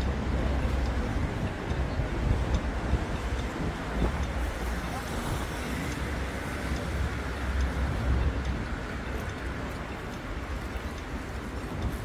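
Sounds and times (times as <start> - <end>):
faint light ticks: 0.0 - 12.0
low city rumble: 0.0 - 12.0.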